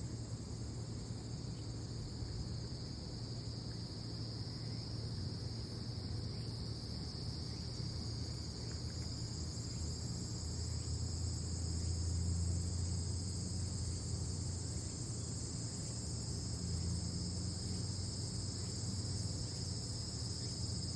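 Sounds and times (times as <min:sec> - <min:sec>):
crickets chirring: 0:00.0 - 0:20.9.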